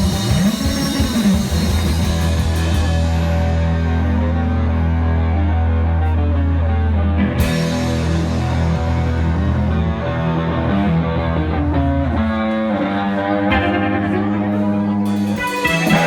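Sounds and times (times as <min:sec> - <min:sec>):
rock music on guitars and bass: 0:00.0 - 0:16.0.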